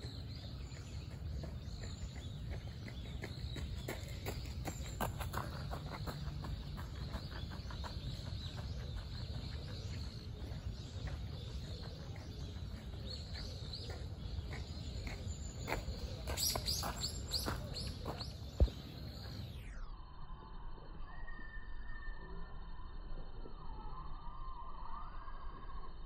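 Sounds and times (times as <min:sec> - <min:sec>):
bird chirps: 0:00.0 - 0:26.0.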